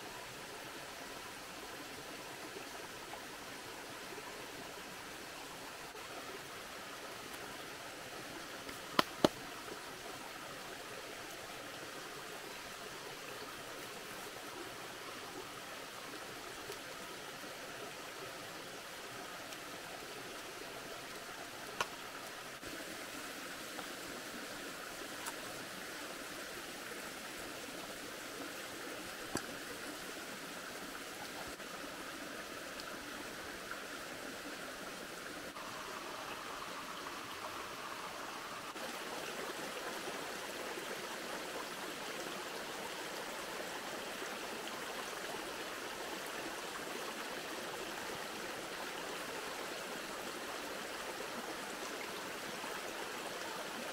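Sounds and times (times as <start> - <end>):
stream babbling over stones: 0.0 - 53.9.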